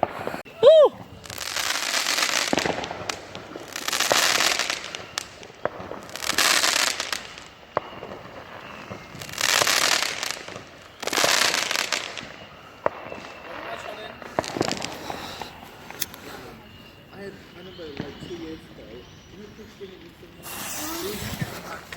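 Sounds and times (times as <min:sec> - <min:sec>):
sharp firework cracks: 0:00.0 - 0:16.8, 0:20.3 - 0:21.9
fireworks crackling bursts: 0:00.0 - 0:21.9.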